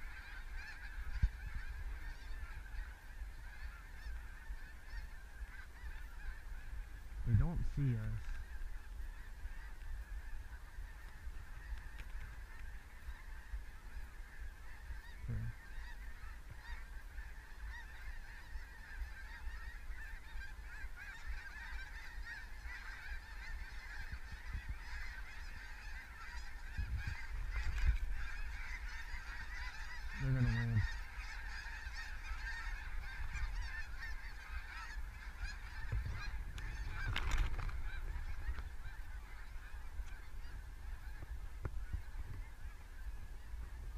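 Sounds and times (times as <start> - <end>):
geese honking: 0.0 - 43.9.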